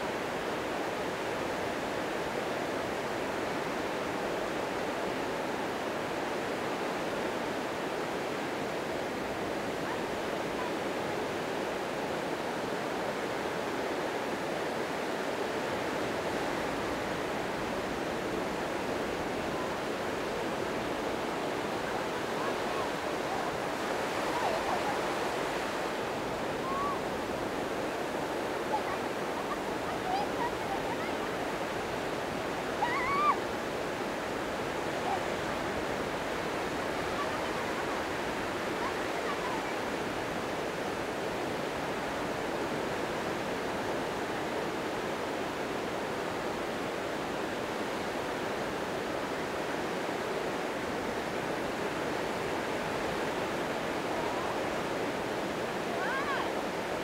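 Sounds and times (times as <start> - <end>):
small waves breaking on sand: 0.0 - 57.0.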